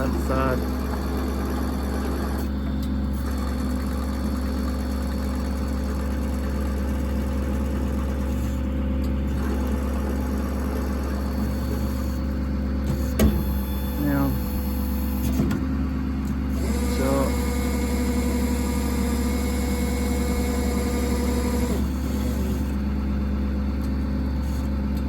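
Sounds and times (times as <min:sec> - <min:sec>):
hydraulic drive droning: 0:00.0 - 0:04.7, 0:07.4 - 0:25.0.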